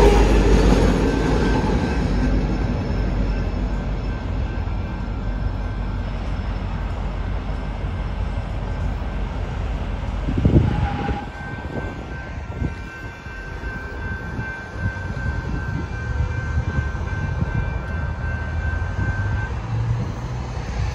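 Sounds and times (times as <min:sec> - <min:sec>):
freight train rumbling: 0:00.0 - 0:20.9
loud train jolt: 0:00.0 - 0:20.9
road traffic passing: 0:00.0 - 0:20.9.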